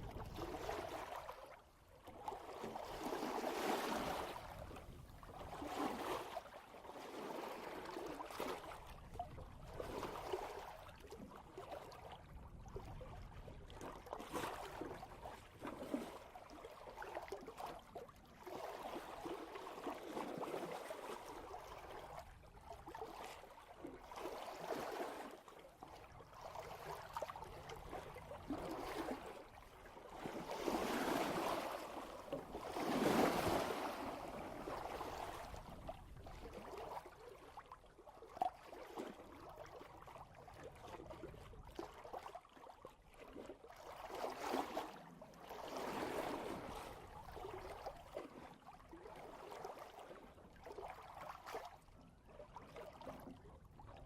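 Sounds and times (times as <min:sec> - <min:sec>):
water rushing along boat bow: 0:00.0 - 0:54.0.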